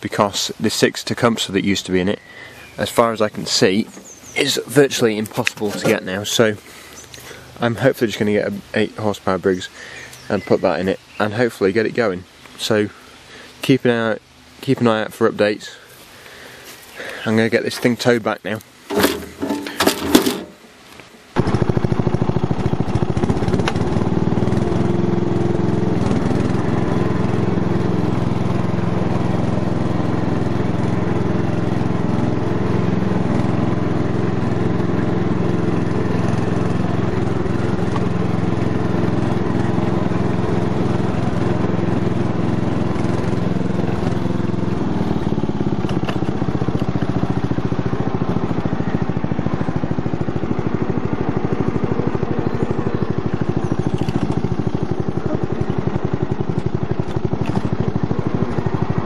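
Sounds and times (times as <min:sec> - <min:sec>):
ride-on mower engine running: 0:00.0 - 0:13.6, 0:14.4 - 0:59.0.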